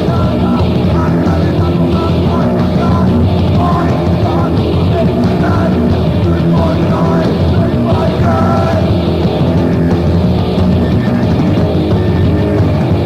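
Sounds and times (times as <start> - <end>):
distorted hardcore punk band: 0.0 - 13.0.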